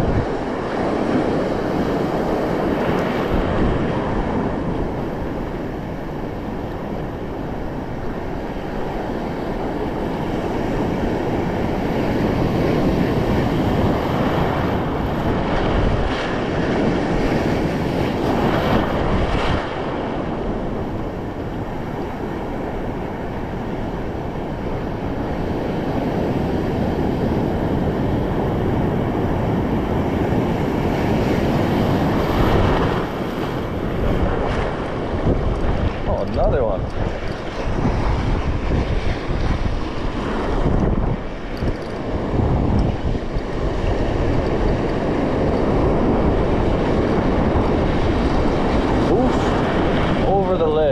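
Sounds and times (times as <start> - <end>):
ocean surf splashing: 0.0 - 50.9
wind buffeting microphone: 0.0 - 50.9.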